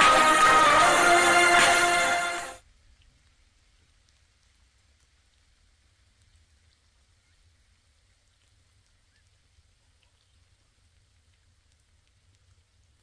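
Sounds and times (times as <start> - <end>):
faint rain: 0.0 - 13.0.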